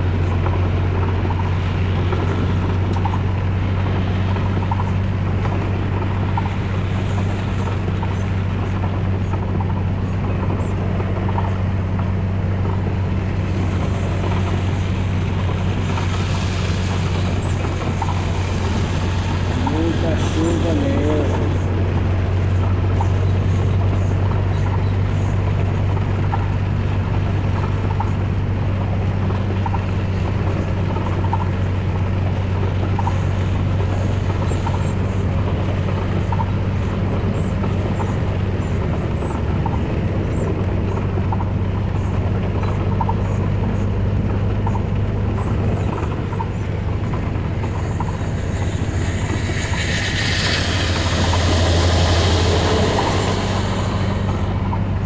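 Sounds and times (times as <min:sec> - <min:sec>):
heavy rain: 0:00.0 - 0:55.0
road noise: 0:00.0 - 0:55.0
truck engine droning: 0:00.0 - 0:55.0.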